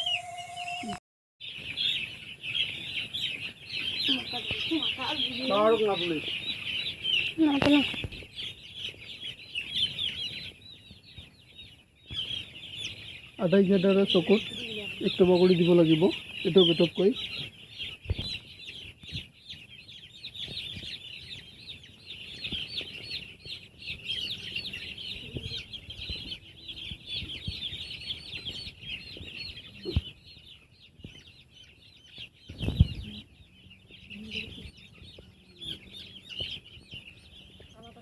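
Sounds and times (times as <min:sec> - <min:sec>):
chicks peeping: 0:00.0 - 0:38.0.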